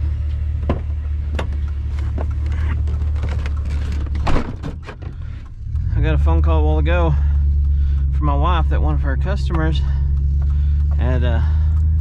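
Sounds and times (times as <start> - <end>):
vehicle rumbling from inside: 0.0 - 12.0.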